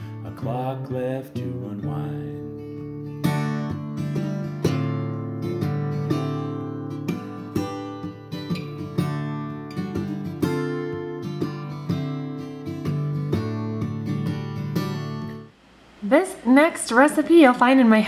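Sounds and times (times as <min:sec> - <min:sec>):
acoustic guitar strummed and picked: 0:00.0 - 0:15.5.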